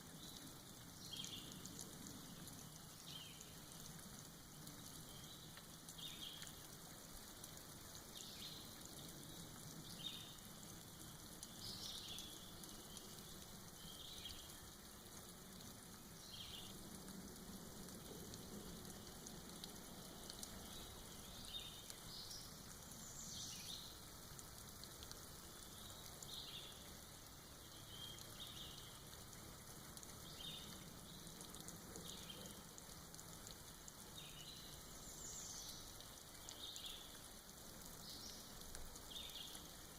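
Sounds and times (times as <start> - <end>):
soft rain patter: 0.0 - 39.9.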